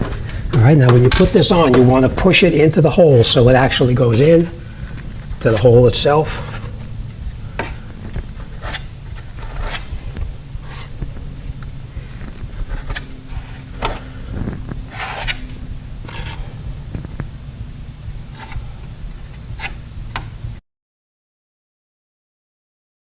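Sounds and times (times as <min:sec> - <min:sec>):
body filler scraping strokes: 0:00.0 - 0:17.3, 0:18.1 - 0:19.9
low hum: 0:00.0 - 0:20.6.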